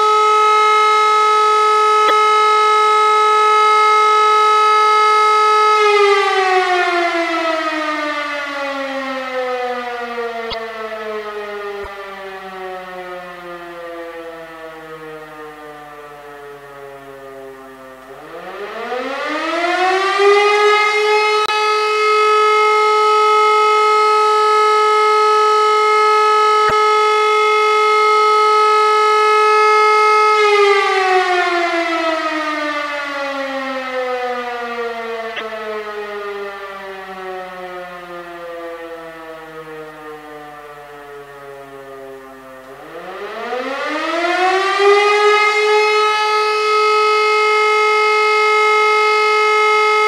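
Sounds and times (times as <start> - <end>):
siren wailing: 0.0 - 50.0.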